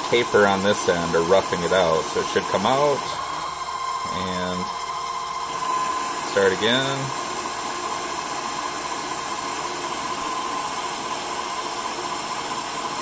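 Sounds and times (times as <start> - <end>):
lathe machine running: 0.0 - 13.0
thin steady spindle whine: 0.0 - 13.0.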